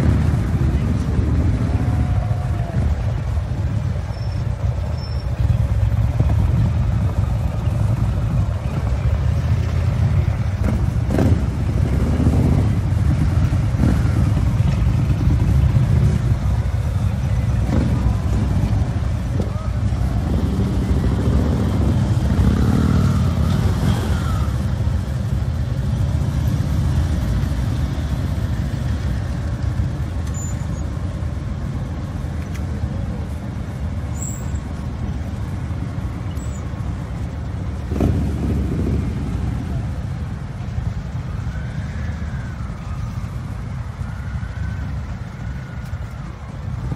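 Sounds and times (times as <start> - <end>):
motorcycle engines: 0.0 - 46.9.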